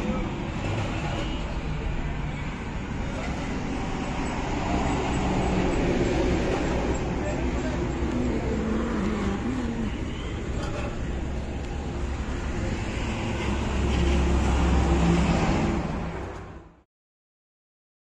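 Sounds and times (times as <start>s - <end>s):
heavy vehicle passing: 0.0s - 16.8s
road traffic rumbling: 0.0s - 16.9s.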